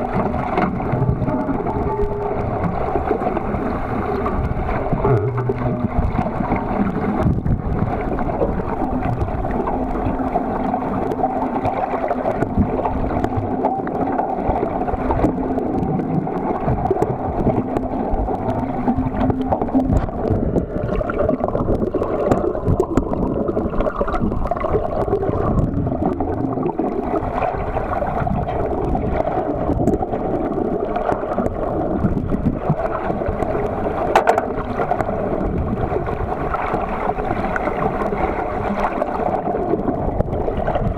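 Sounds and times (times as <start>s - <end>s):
low hum: 0.0s - 40.9s
underwater rushing water: 0.0s - 40.9s.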